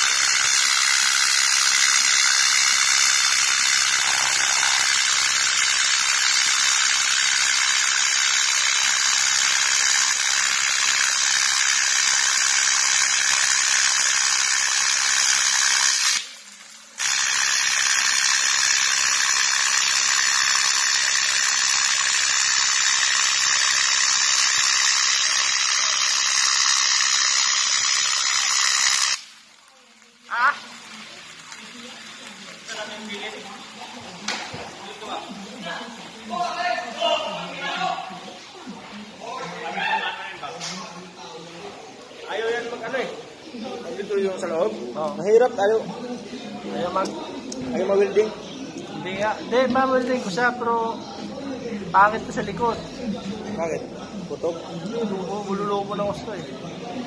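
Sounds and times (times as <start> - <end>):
welding arc buzzing hiss: 0.0 - 57.0.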